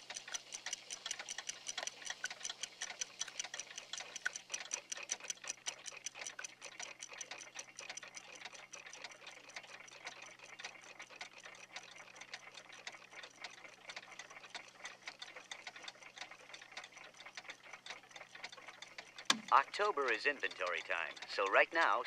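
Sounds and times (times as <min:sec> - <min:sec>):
mechanical clocks ticking: 0:00.0 - 0:22.0.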